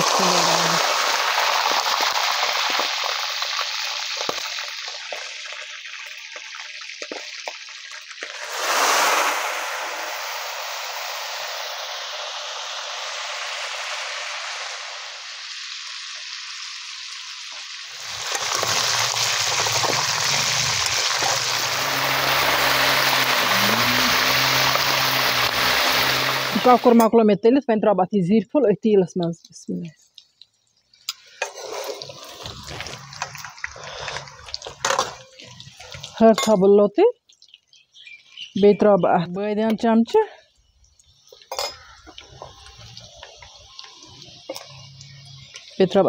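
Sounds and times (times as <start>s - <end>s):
chicken deep-frying in oil: 0.0s - 27.1s, 29.5s - 46.0s.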